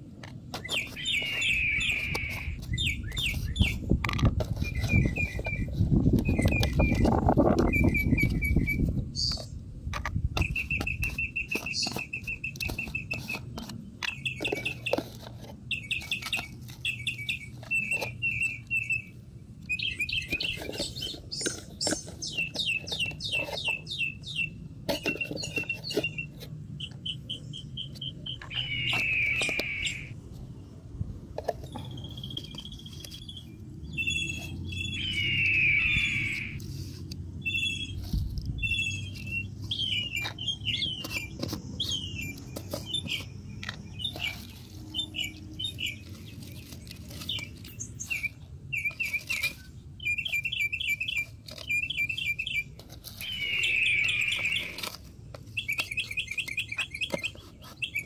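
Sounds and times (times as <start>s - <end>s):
small birds chirping and trilling: 0.5s - 9.6s, 10.3s - 30.7s, 31.6s - 58.0s.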